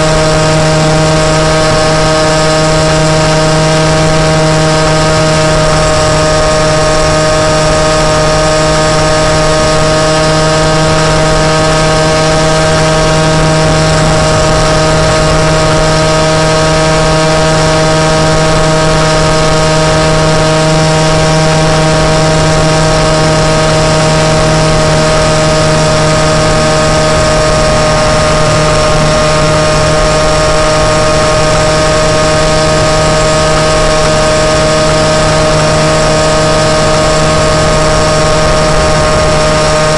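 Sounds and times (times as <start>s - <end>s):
moped engine buzzing: 0.0s - 39.9s.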